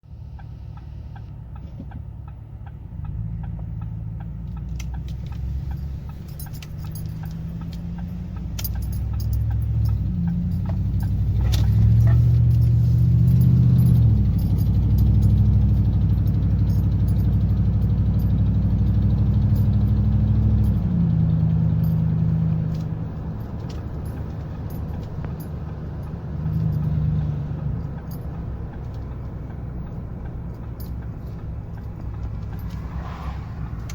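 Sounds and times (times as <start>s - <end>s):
rapid exhaust ticking: 0.0s - 33.9s
truck engine idling and revving: 0.0s - 33.9s.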